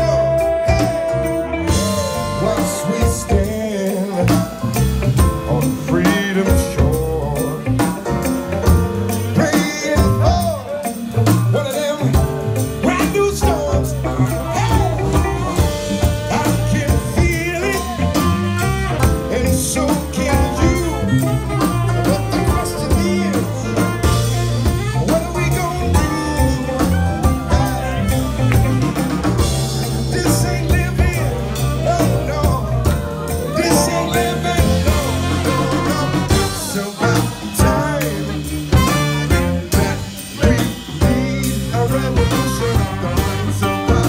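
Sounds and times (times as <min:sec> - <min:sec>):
bass line: 0:00.0 - 0:44.0
drum kit: 0:00.0 - 0:44.0
electric guitar: 0:00.0 - 0:44.0.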